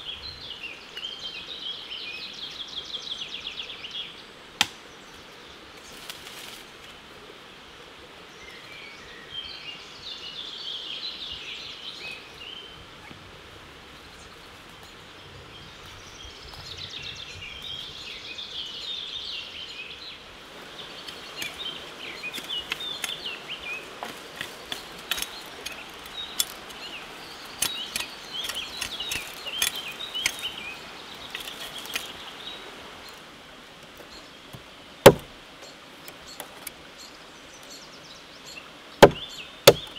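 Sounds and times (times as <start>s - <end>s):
small birds chirping: 0.0s - 6.2s, 14.0s - 39.9s.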